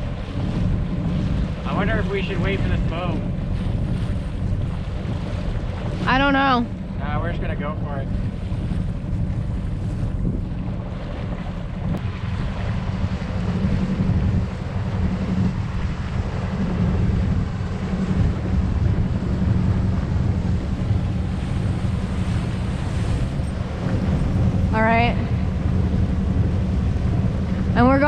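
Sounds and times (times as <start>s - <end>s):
boat engine droning: 0.0s - 28.0s
water rushing along hull: 0.0s - 28.0s
wind buffeting microphone: 0.0s - 28.0s.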